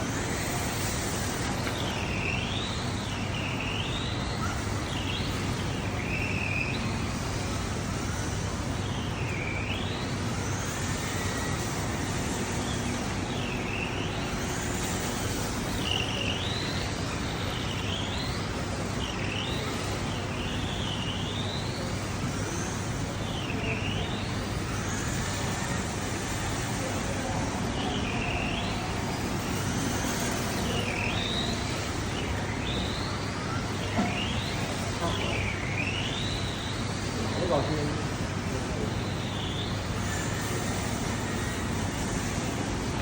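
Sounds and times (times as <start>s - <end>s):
electric motor whining: 0.0s - 43.0s.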